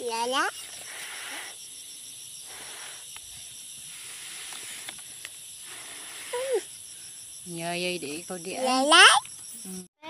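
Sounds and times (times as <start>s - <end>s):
insects droning: 0.0s - 9.9s.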